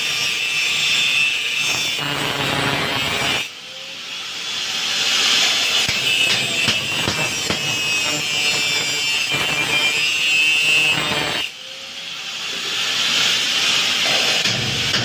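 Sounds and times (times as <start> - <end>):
harsh metalwork hiss: 0.0 - 15.0.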